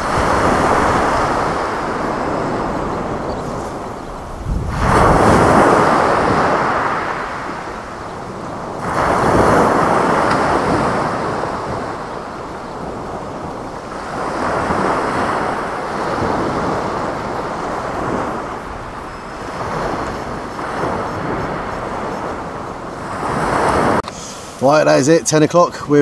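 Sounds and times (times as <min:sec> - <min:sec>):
wind buffeting microphone: 0:00.0 - 0:24.0
sea waves breaking: 0:00.0 - 0:25.4.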